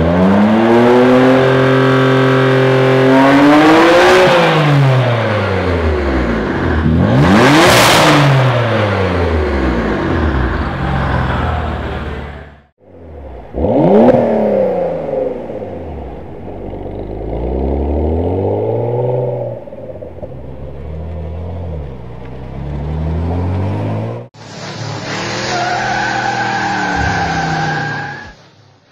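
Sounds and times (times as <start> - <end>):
car engine revving: 0.0 - 27.8.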